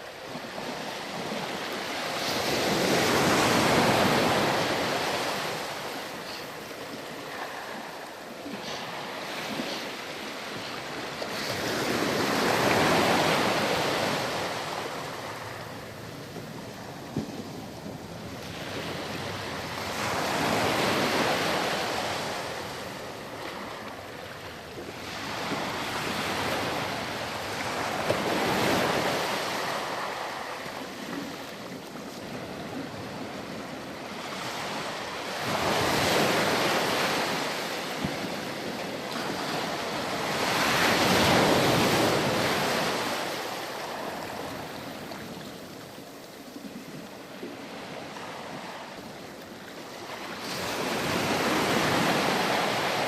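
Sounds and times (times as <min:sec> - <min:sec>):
ocean waves breaking on beach: 0:00.0 - 0:53.0.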